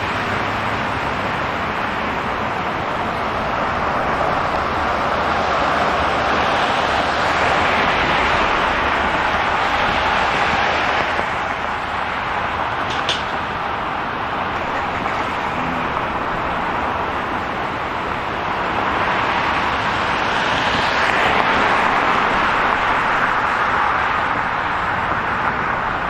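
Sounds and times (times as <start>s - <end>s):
city street traffic: 0.0s - 26.0s
vehicle passing: 0.0s - 26.0s.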